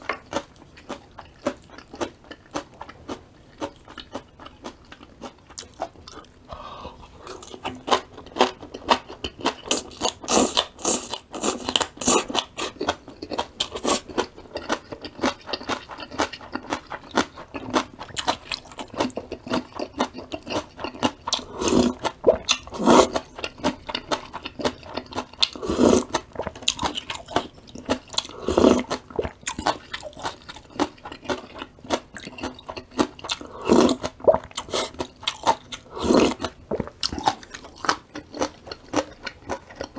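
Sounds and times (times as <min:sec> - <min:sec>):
crisp vegetables crunching: 0:00.0 - 0:39.9.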